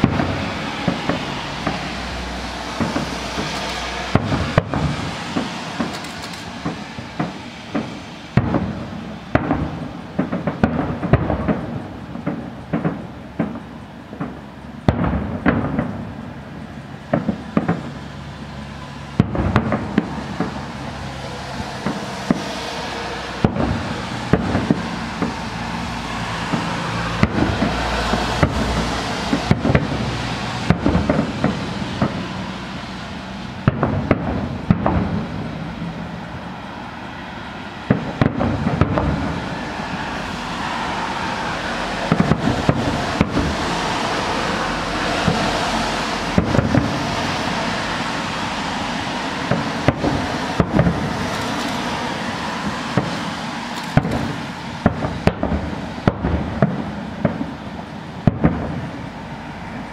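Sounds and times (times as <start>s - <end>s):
fireworks booming: 0.0s - 59.9s
fireworks hiss: 0.0s - 59.9s.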